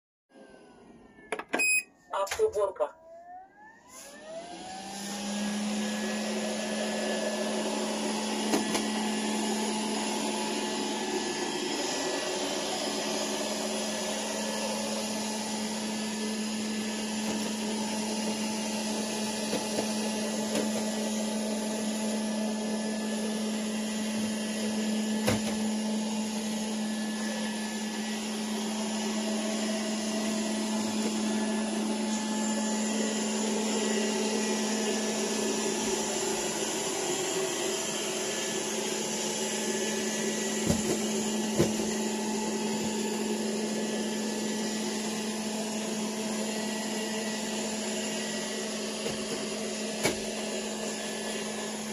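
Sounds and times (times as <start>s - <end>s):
robot vacuum cleaner running: 2.2s - 51.9s.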